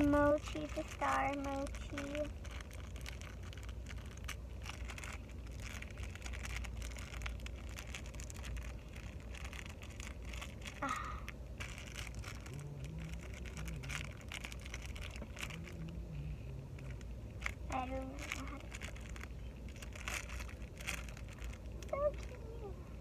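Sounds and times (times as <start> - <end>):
car interior rumble: 0.0 - 23.0
plastic bag crinkling: 0.0 - 23.0.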